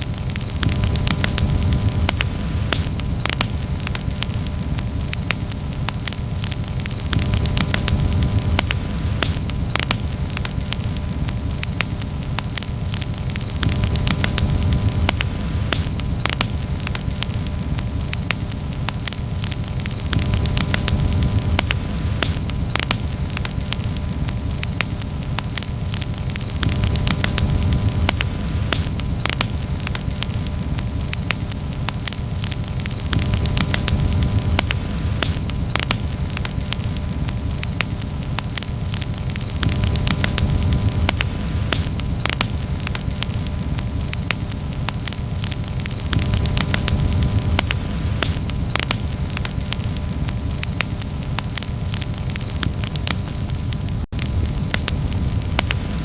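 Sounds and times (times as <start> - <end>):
campfire crackling and popping: 0.0 - 56.0
low rumble of flames: 0.0 - 56.0.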